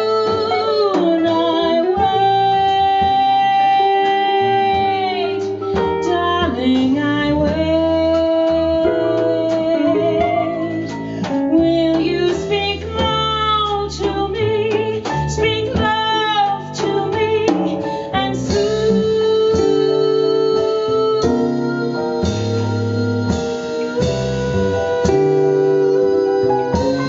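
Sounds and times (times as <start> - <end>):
live jazz band playing: 0.0 - 27.0
woman singing jazz with vibrato: 0.0 - 27.0.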